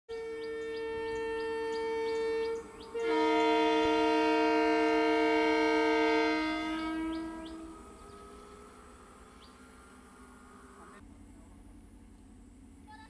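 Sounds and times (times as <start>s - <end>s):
train horn blast: 0.1s - 11.0s.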